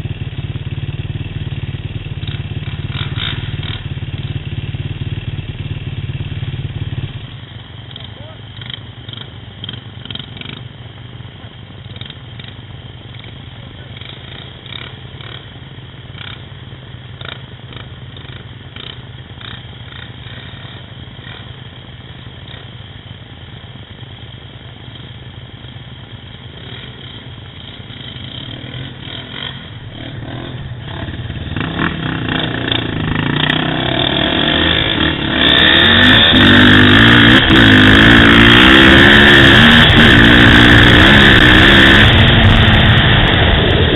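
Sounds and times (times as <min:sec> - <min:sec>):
atv engine running and revving: 0:00.0 - 0:43.9.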